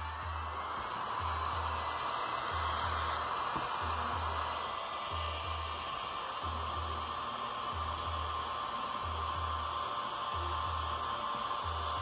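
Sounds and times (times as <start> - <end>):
small vacuum cleaner running: 0.0 - 12.0.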